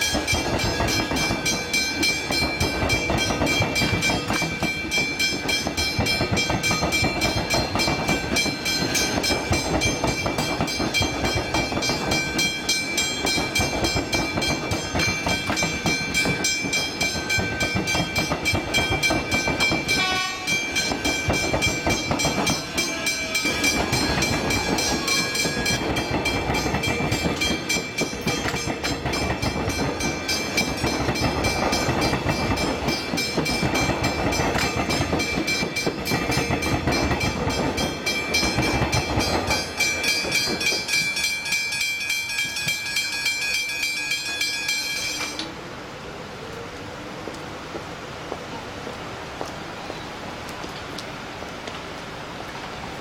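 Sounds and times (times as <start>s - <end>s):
train wheels clattering: 0.0s - 45.6s
crossing warning bell ringing: 0.0s - 45.7s.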